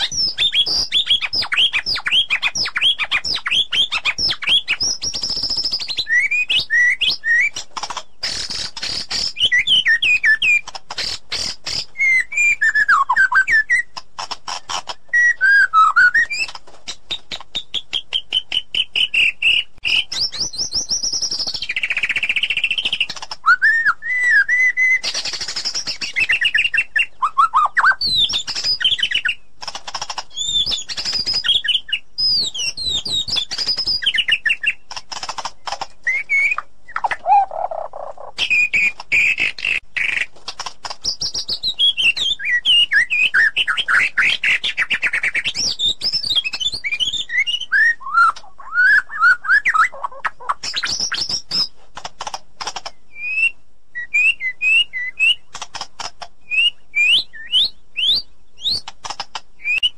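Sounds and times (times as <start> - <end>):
bird singing varied song: 0.0 - 51.8, 52.6 - 59.9.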